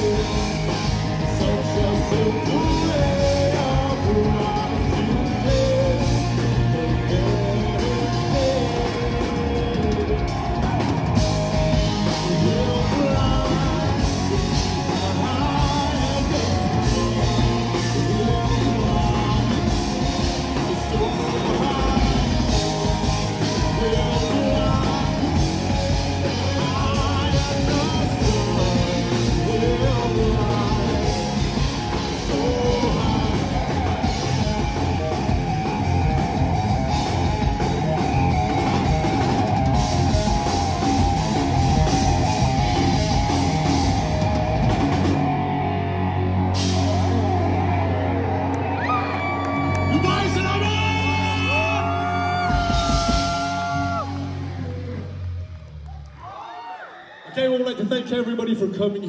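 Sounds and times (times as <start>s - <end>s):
lead singer: 0.0s - 55.3s
drum kit: 0.0s - 55.8s
distorted electric guitars: 0.0s - 56.0s
bass guitar: 0.0s - 56.4s.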